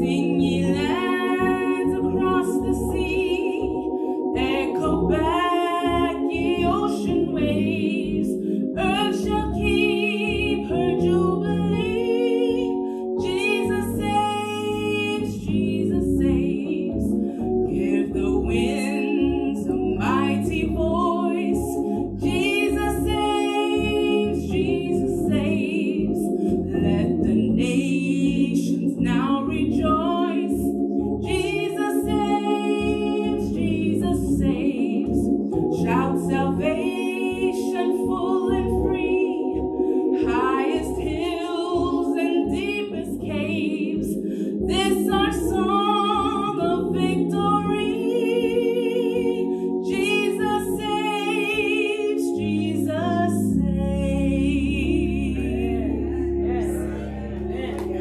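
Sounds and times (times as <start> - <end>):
woman singing a hymn: 0.0 - 58.0.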